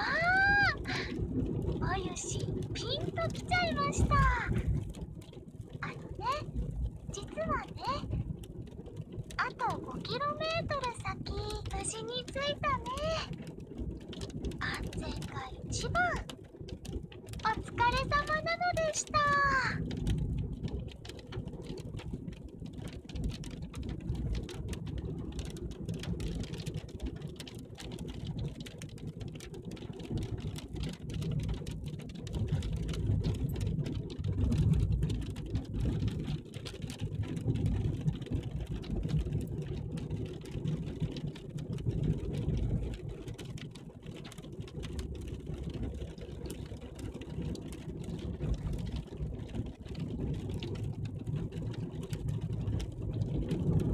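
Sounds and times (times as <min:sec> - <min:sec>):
car engine low rumble: 0:00.0 - 0:53.9.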